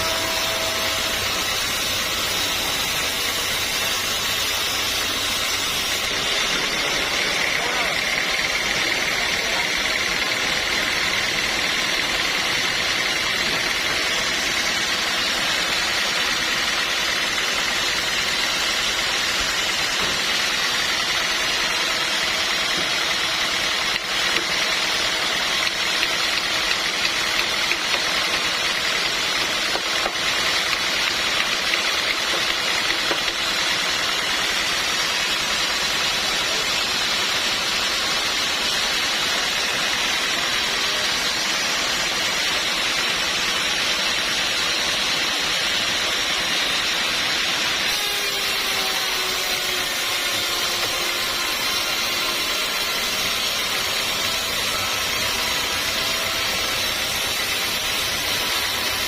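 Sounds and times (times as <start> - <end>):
saw running with high whine: 0.0 - 59.0.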